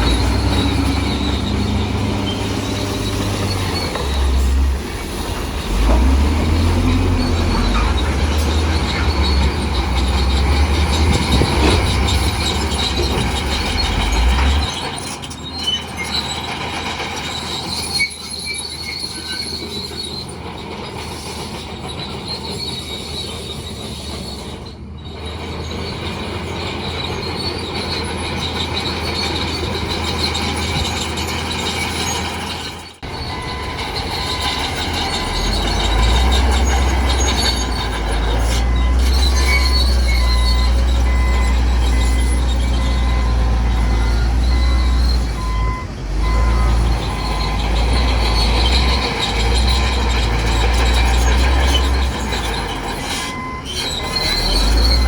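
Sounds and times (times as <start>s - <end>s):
bulldozer diesel engine rumble: 0.0s - 55.0s
crawler tracks squealing: 0.0s - 55.0s.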